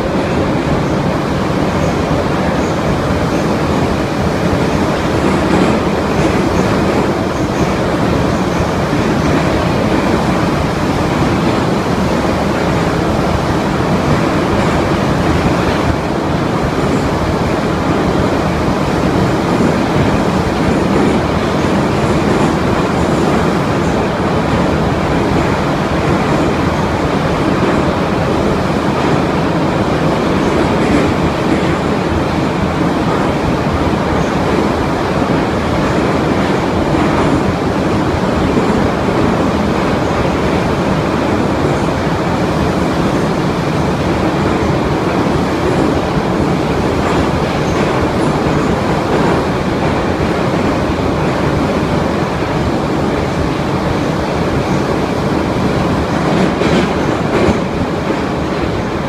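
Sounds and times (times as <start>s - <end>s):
subway train running: 0.0s - 59.0s.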